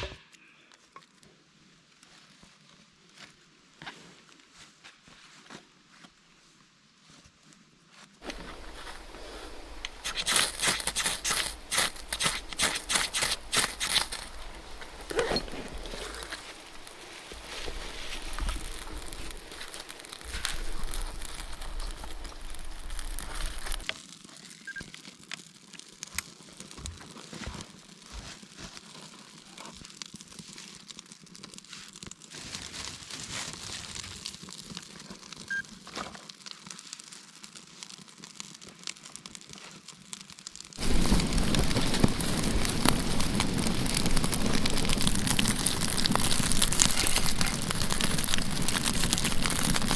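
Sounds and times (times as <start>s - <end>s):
dry wood and leaves crackling: 7.4s - 49.9s.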